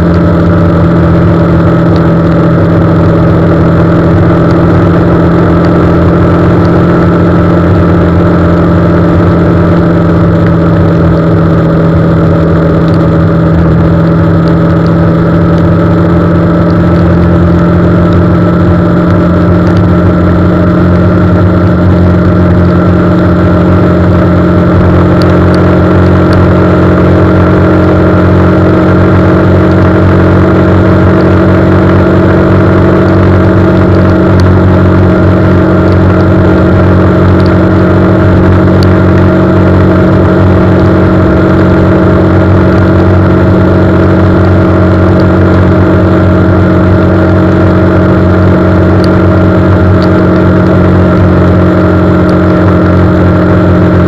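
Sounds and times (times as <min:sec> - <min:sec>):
car engine hum: 0:00.0 - 0:54.0
road noise: 0:00.0 - 0:54.0.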